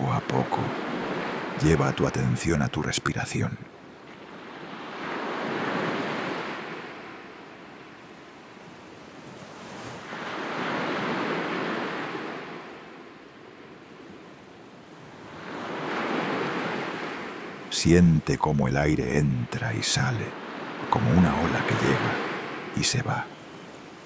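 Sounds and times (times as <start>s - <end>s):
sea waves washing in: 0.0s - 24.0s.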